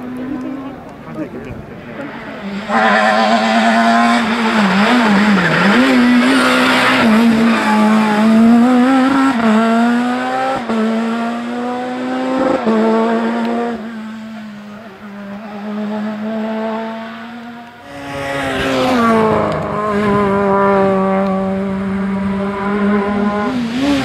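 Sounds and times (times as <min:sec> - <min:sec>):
rally car accelerating through gears: 0:01.8 - 0:24.0.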